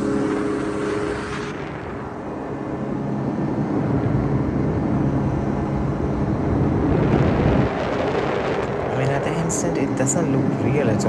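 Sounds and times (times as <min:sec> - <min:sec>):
paraglider engine running: 0:00.0 - 0:11.0
wind rush on microphone: 0:00.0 - 0:11.0.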